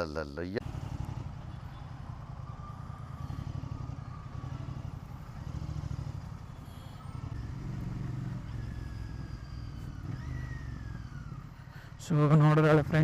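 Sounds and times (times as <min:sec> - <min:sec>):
motorcycle engine running: 0:00.6 - 0:13.0.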